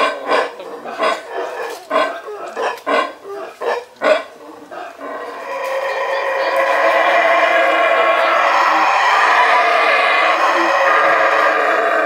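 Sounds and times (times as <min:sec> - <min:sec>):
howler monkey calls: 0:00.0 - 0:12.0.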